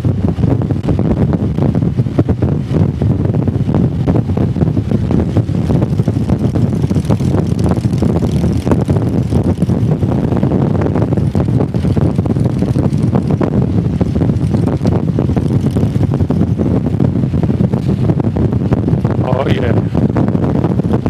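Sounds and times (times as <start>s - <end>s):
motorcycle engine cruising: 0.0s - 21.0s
wind buffeting microphone: 0.0s - 21.0s.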